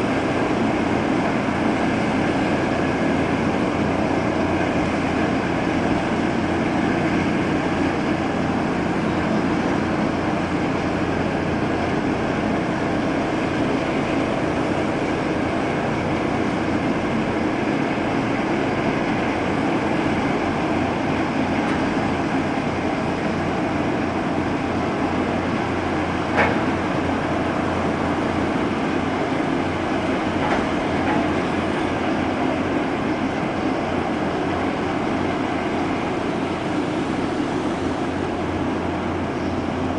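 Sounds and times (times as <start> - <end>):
ship engines rumbling: 0.0 - 39.9.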